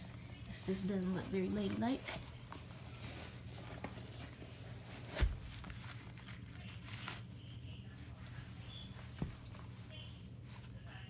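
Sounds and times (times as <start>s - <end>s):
shoe rustling and handling: 1.1s - 7.3s, 8.2s - 10.8s.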